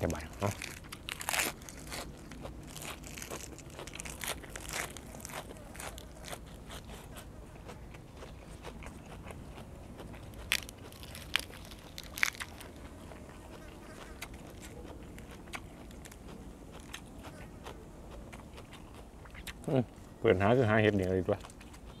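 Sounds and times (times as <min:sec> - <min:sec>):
crunchy chewing of lettuce: 0:00.0 - 0:22.0.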